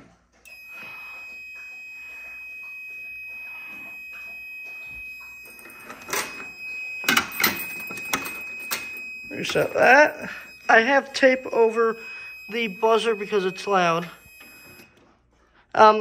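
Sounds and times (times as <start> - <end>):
fire alarm buzzer tone: 0.4 - 15.1.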